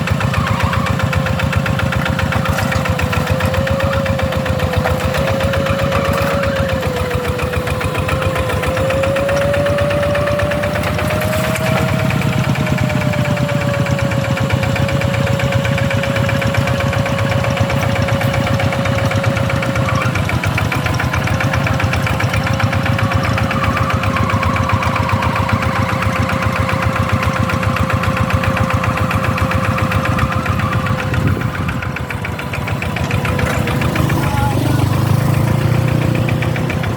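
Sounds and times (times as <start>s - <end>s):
diesel engine knocking: 0.0s - 36.9s
steady whining tone: 0.0s - 36.9s.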